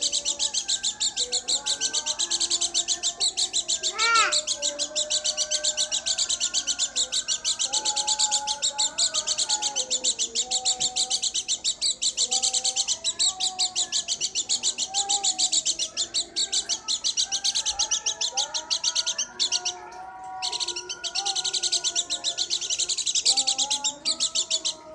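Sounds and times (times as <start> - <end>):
bird twittering song: 0.0 - 24.9.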